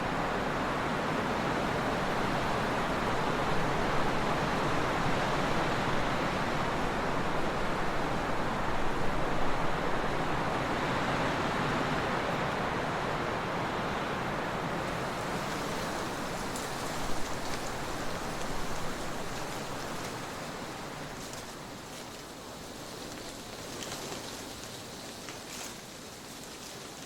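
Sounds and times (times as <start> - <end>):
wind blowing: 0.0 - 27.0.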